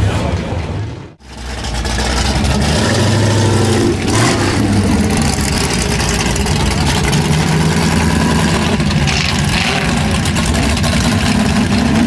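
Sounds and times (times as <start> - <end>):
car engine running: 1.2 - 12.0.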